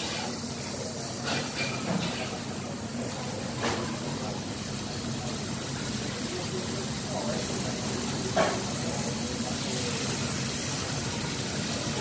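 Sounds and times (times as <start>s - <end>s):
food sizzling on griddle: 0.0s - 12.0s.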